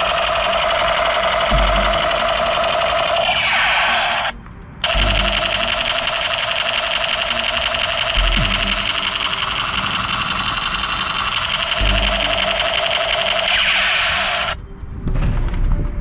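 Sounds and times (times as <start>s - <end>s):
toy pistol buzzing rattle: 0.0s - 14.6s.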